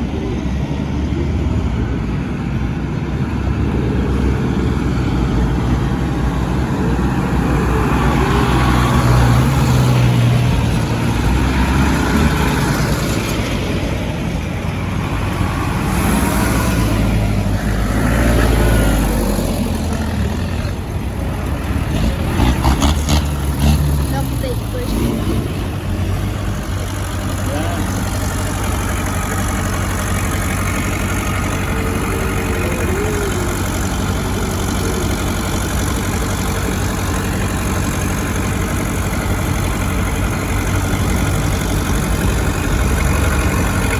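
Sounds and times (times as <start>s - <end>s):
tractors driving past: 0.0s - 43.9s.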